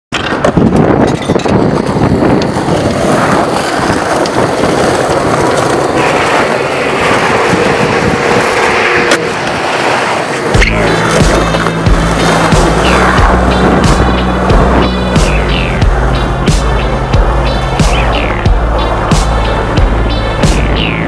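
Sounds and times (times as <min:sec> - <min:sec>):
skateboard clack: 0:00.1 - 0:21.0
skateboard wheels rolling: 0:00.1 - 0:21.0.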